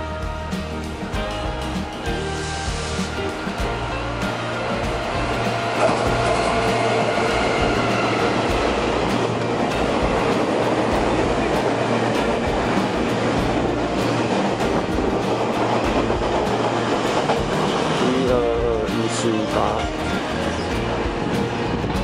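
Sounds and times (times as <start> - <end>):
train rushing past on rails: 0.0 - 22.0.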